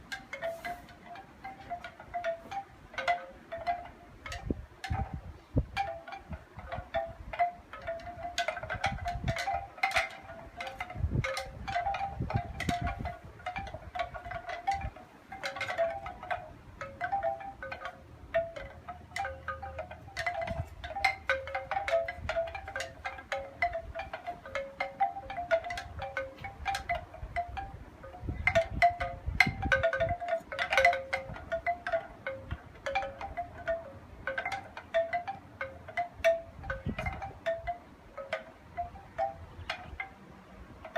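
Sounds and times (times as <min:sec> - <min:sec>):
wind chimes ringing: 0:00.0 - 0:40.9
wind rumble on microphone: 0:01.8 - 0:24.5, 0:25.1 - 0:34.5, 0:36.1 - 0:40.9.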